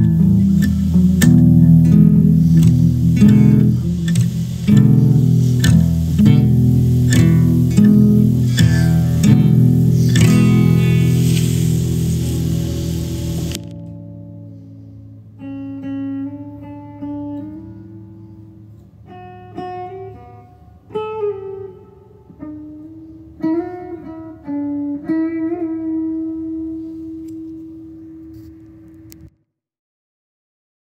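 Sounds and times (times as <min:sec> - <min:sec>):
solo guitar plucked notes: 0:00.0 - 0:28.2.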